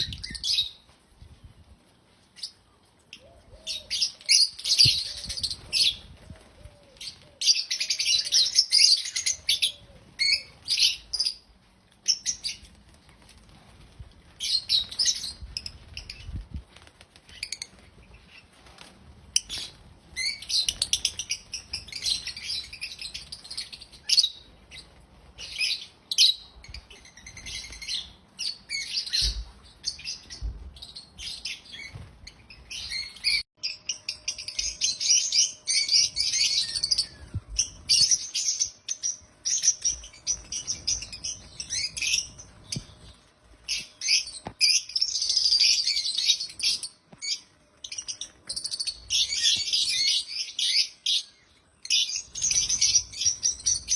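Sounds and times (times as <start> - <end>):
lovebirds chirping: 0.0 - 13.5, 14.3 - 53.9.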